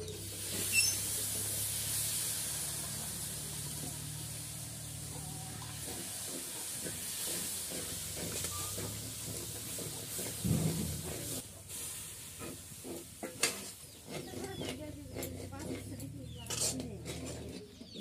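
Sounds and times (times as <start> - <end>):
wok sizzling: 0.0 - 16.6
metal spatula scraping wok: 0.0 - 18.0.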